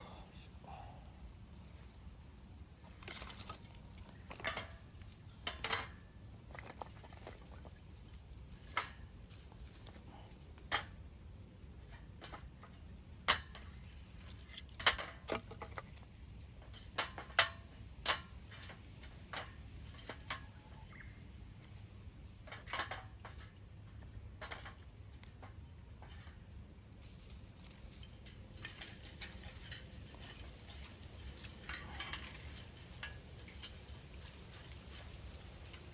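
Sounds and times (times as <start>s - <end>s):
firewood being handled: 0.0s - 35.9s
camp gear clinking and knocking: 2.8s - 11.1s, 11.8s - 35.8s.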